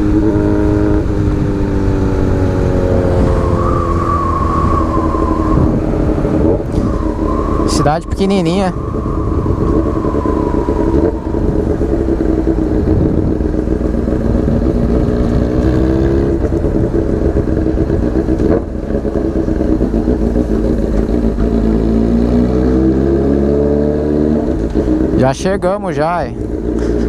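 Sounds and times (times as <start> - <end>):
motorcycle engine at steady throttle: 0.0 - 27.0.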